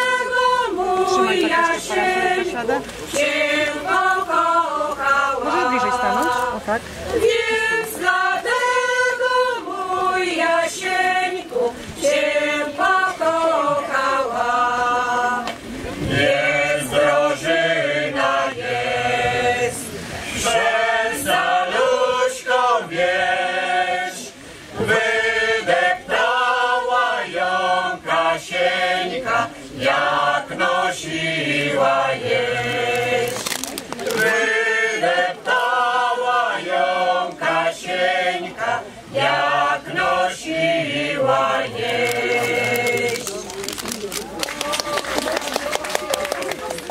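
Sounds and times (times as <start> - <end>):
mixed choir singing a cappella: 0.0 - 33.5, 34.1 - 43.4.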